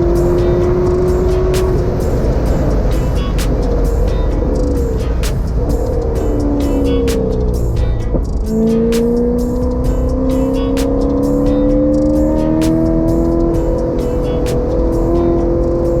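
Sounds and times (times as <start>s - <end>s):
background music with steady beat: 0.0s - 16.0s
car engine accelerating: 0.0s - 16.0s.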